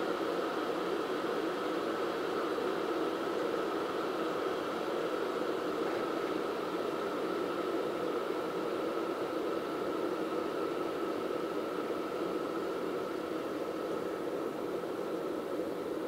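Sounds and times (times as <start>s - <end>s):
electric kettle heating water: 0.0s - 16.0s.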